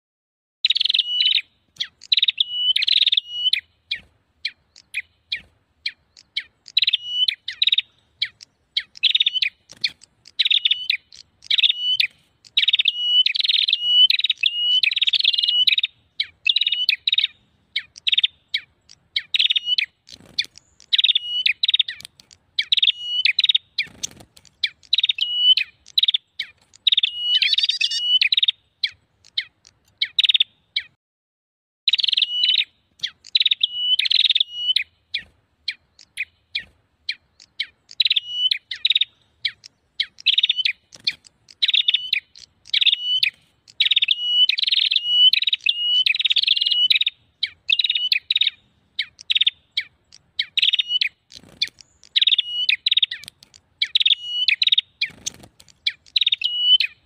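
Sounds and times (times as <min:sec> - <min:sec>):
small bird chattering calls: 0:00.6 - 0:31.0, 0:31.9 - 0:57.0.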